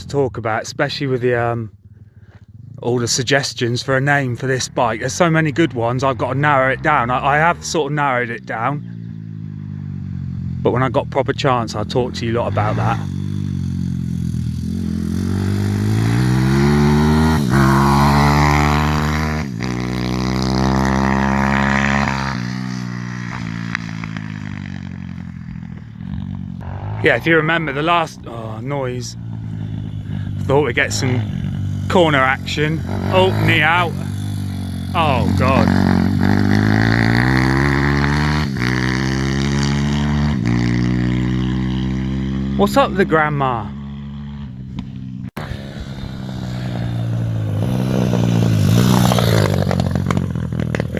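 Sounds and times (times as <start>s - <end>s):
motorbike engine revving: 1.7s - 50.9s.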